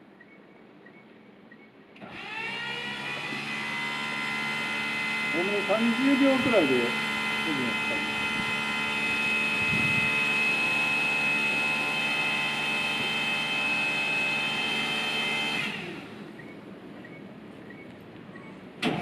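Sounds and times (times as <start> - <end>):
motor whine with fixed tones: 0.9 - 18.6.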